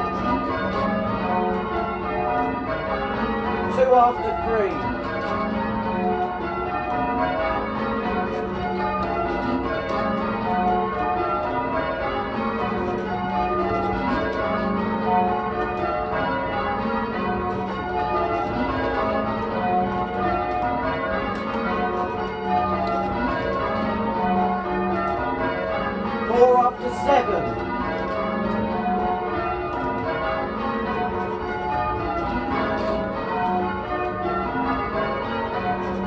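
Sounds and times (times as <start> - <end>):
church bells ringing: 0.0 - 36.0.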